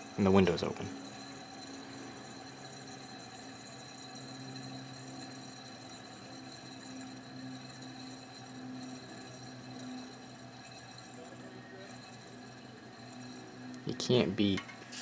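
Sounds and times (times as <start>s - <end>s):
thin high whine: 0.0s - 15.0s
window air conditioner humming: 0.0s - 15.0s.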